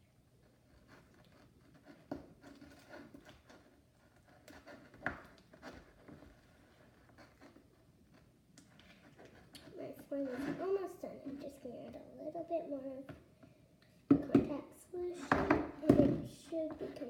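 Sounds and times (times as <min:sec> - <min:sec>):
utensil stirring slime: 0:00.4 - 0:13.2, 0:14.1 - 0:17.0.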